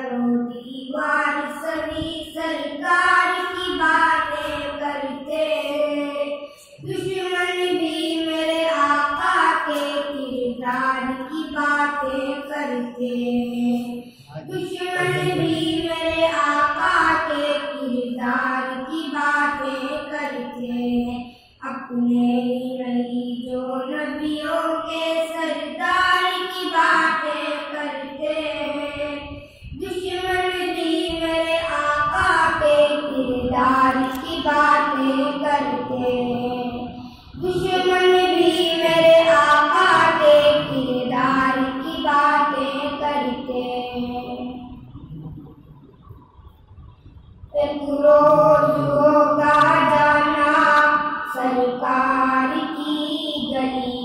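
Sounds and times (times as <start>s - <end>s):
boys singing devotional song: 0.0s - 45.8s, 47.5s - 54.0s.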